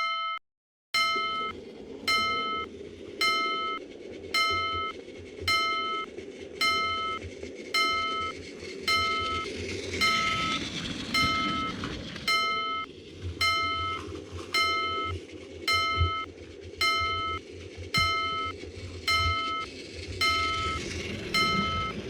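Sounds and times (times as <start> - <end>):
railroad crossing bell clanging: 1.0 - 3.8, 4.4 - 7.2, 7.8 - 17.4, 18.0 - 22.0
train rumbling past: 1.0 - 22.0.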